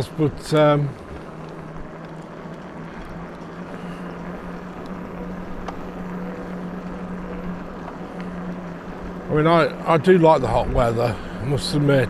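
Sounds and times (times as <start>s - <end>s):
electric bike motor humming: 0.0s - 12.0s
wind and tyre noise: 0.0s - 12.0s.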